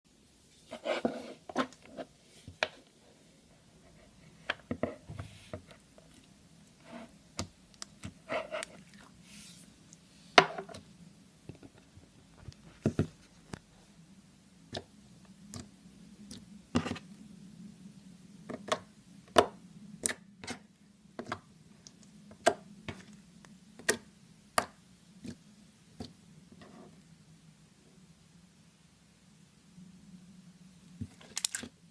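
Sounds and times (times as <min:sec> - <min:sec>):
faint steady hum: 0:00.1 - 0:31.9.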